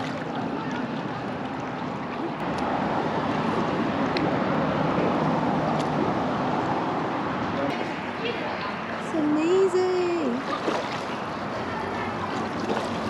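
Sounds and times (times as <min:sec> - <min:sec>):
water moving around kayak: 0:00.0 - 0:13.0.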